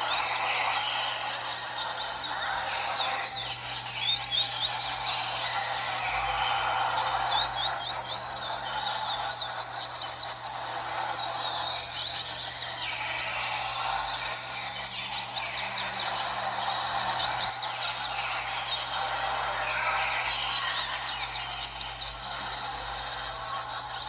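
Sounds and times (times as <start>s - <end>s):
birds singing whistled notes: 0.0s - 24.0s.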